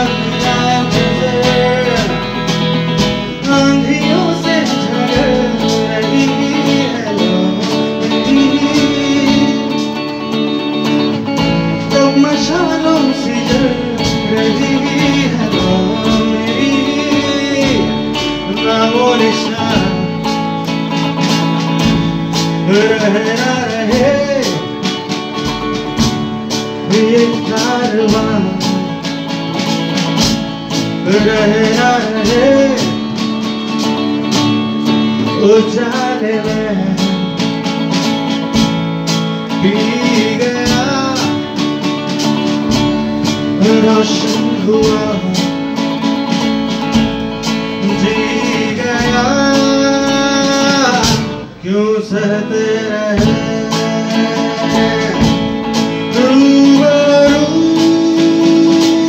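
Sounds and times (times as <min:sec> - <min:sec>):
person singing: 0:00.0 - 0:38.5, 0:39.4 - 0:46.5, 0:47.6 - 0:59.0
plucked guitar: 0:00.0 - 0:59.0.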